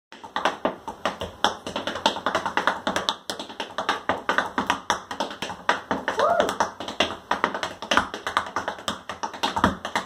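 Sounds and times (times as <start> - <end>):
tap shoes on wooden board: 0.1 - 10.0.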